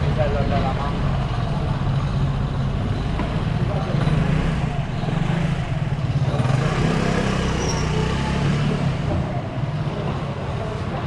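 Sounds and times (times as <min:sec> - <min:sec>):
street noise: 0:00.0 - 0:11.0
vehicle engine humming: 0:00.0 - 0:11.0.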